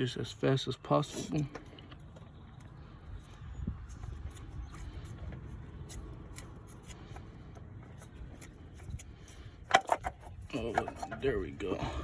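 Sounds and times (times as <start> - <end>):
oil filter rubbing and clicking: 1.2 - 11.7.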